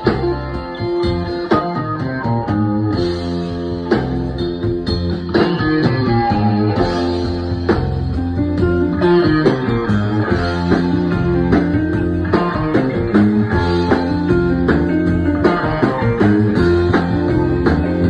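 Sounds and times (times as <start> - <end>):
country-rock band playing: 0.0 - 18.0
electric guitar: 0.0 - 18.0.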